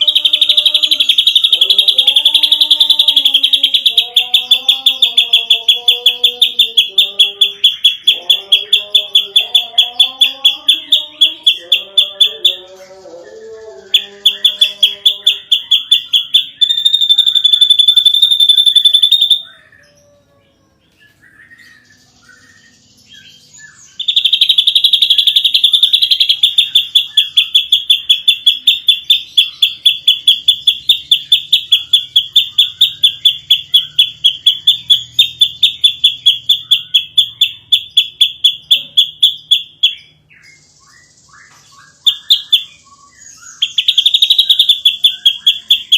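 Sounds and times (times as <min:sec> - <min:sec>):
bird singing rattling high notes: 0:00.0 - 0:20.3, 0:21.1 - 0:45.9.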